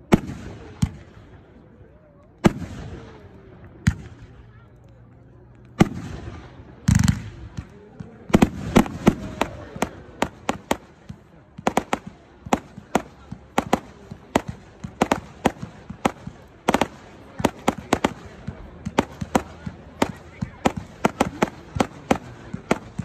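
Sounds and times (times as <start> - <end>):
firework cracks: 2.4 - 4.4, 5.7 - 23.0.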